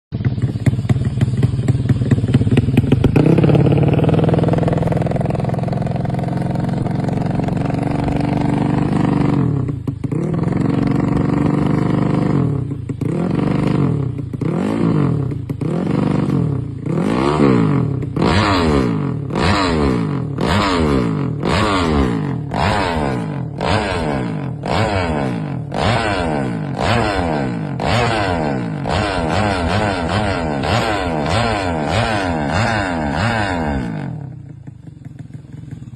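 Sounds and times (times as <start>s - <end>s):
vehicle engine revving: 0.1s - 35.9s.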